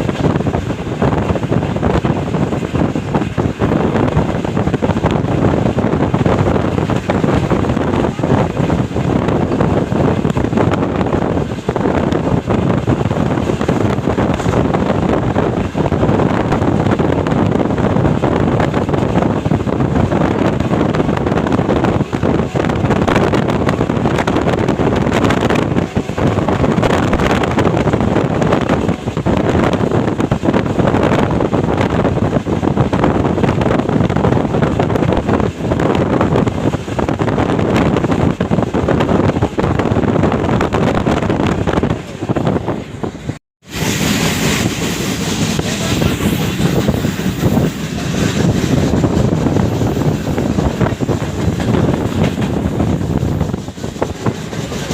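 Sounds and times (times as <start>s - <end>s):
train coaches rumbling: 0.0s - 54.9s
wind buffeting microphone: 0.0s - 54.9s.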